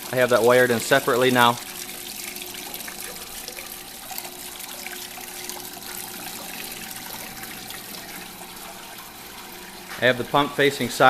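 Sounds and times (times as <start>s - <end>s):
faint steady hum: 0.0s - 11.0s
water pouring and trickling: 0.0s - 11.0s.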